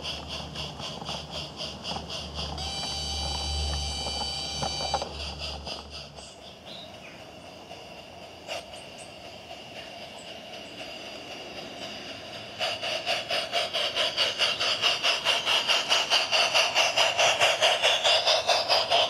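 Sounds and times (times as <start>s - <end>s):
steam locomotive exhaust chuffs: 0.0s - 19.0s.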